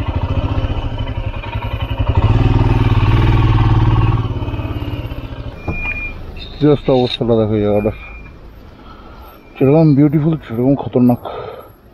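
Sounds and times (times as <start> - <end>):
motorcycle engine labouring: 0.0 - 11.4.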